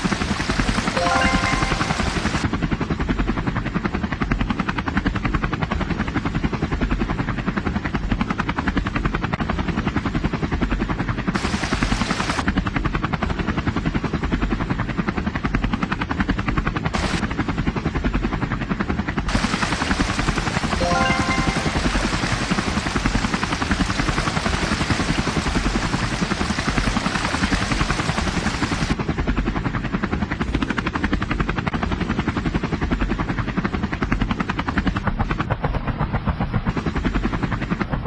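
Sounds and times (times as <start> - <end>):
helicopter rotor chopping: 0.0 - 38.0.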